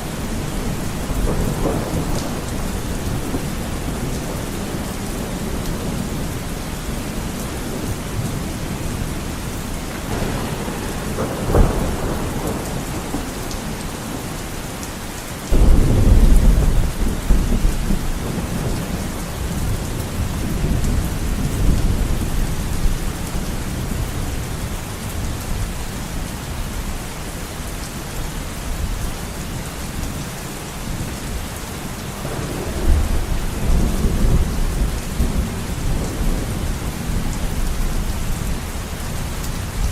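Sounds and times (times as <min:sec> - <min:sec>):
thunder rumbling: 0:00.0 - 0:25.7, 0:32.1 - 0:39.9
heavy rain on a window: 0:00.0 - 0:39.9.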